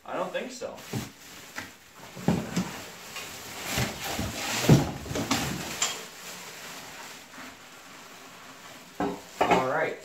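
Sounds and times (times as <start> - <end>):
plastic bag rustling and crinkling: 0.1 - 9.9.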